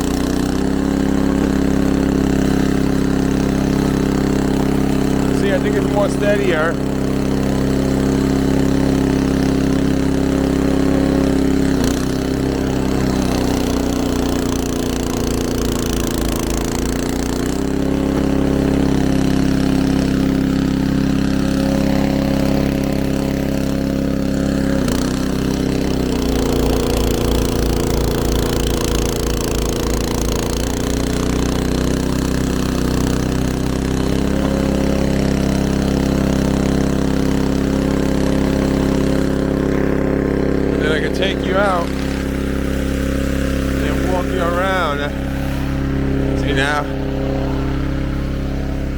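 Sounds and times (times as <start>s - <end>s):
small petrol engine running: 0.0s - 48.9s.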